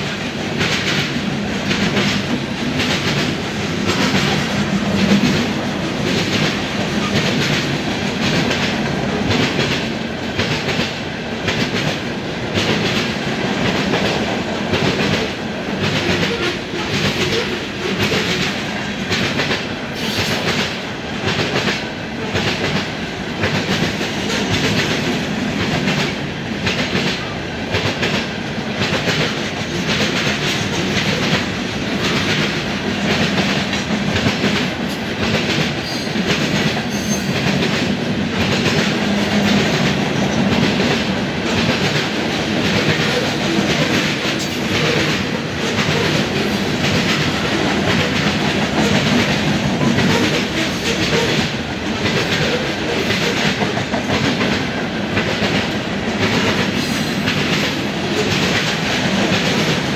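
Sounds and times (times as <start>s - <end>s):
freight train wheels clacking: 0.0s - 59.9s
train rumble: 0.0s - 59.9s.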